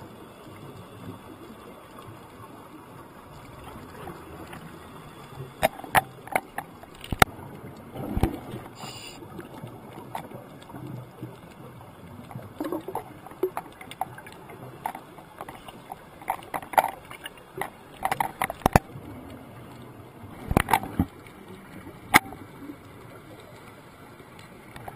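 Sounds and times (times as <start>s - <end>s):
underwater bubbling: 0.0s - 24.9s
sharp clicks and crackles: 0.2s - 24.9s.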